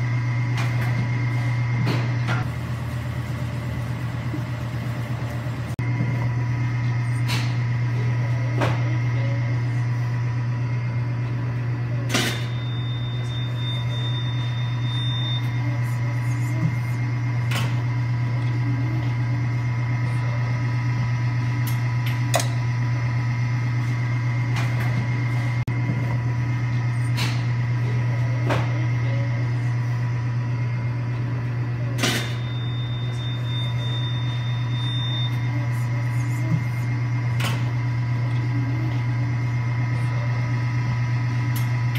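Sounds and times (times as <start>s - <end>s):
low machine hum: 0.0s - 41.9s.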